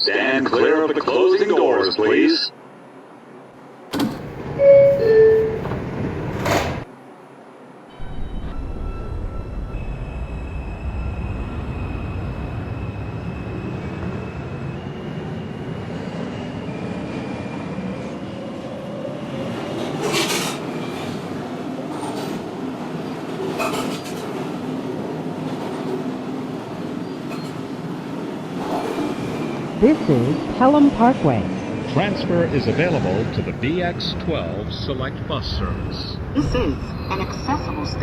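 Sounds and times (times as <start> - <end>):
subway train propulsion whine: 0.0 - 38.0
train running noise: 2.7 - 38.0.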